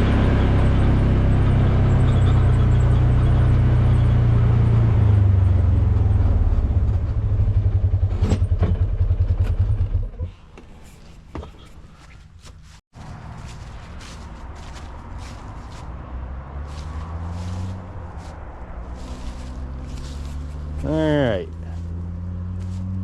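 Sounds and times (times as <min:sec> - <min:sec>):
utility vehicle engine running: 0:00.0 - 0:10.7, 0:13.0 - 0:23.0.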